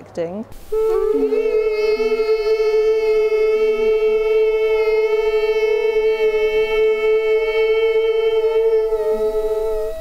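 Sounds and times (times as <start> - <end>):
children singing a high note: 0.7 - 10.0.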